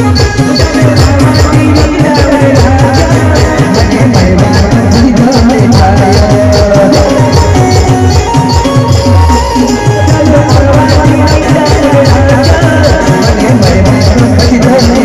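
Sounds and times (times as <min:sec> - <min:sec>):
driving drum beat: 0:00.0 - 0:15.0
held melody line: 0:00.0 - 0:15.0
live band music: 0:00.0 - 0:15.0.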